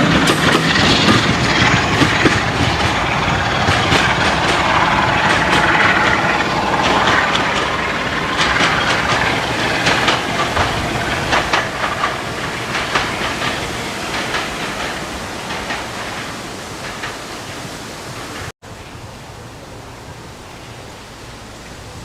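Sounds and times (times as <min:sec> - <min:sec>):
train wheels clicking over rail joints: 0:00.0 - 0:18.5
steady hiss: 0:00.0 - 0:22.0.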